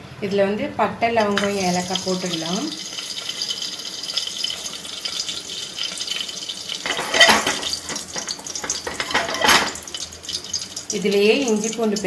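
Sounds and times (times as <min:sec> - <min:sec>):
spices sizzling in hot oil: 0:01.2 - 0:12.0.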